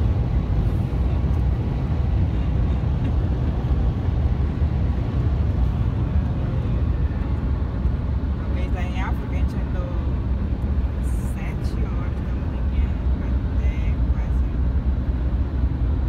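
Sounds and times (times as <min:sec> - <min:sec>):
car cabin road and wind noise: 0:00.0 - 0:16.0.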